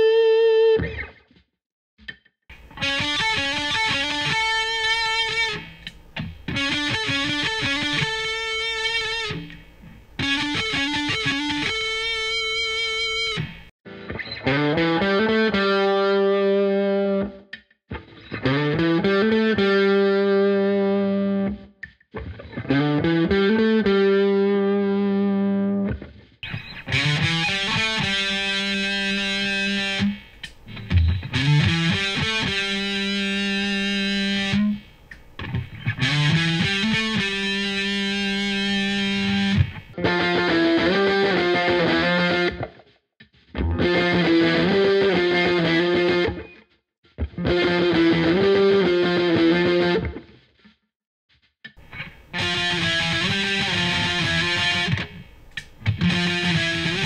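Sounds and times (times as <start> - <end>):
distorted electric guitar chords: 0.0 - 1.2, 2.5 - 42.9, 43.6 - 50.5, 51.8 - 57.0.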